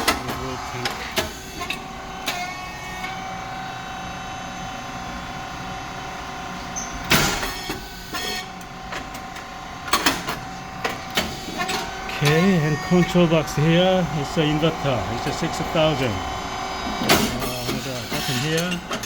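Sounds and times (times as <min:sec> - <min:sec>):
hydraulic motor hum: 0:00.0 - 0:19.0.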